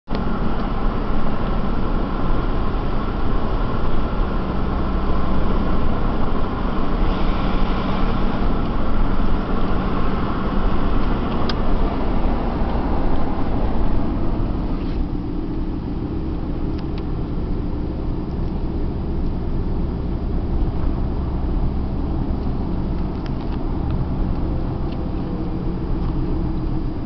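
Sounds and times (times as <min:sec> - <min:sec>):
vehicle road and engine rumble: 0:00.0 - 0:27.0
low hum: 0:00.1 - 0:27.0.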